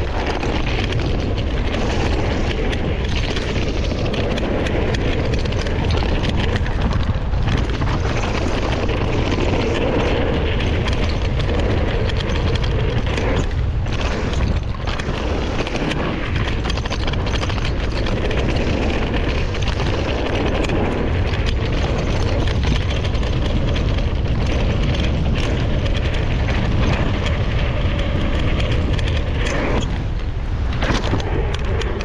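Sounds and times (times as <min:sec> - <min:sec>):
bike clicks and rattles: 0:00.0 - 0:32.0
tyres humming on dirt: 0:00.0 - 0:32.0
wind rumbling on microphone: 0:00.0 - 0:32.0.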